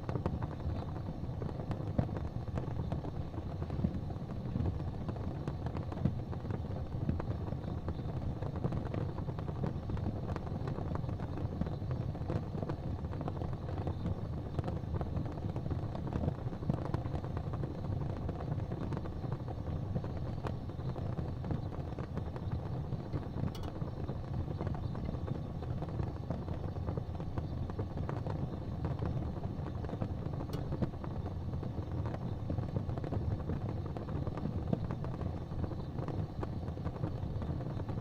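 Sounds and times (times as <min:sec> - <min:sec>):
low rumble of fire: 0:00.0 - 0:38.0
wood fire crackling: 0:00.0 - 0:38.0.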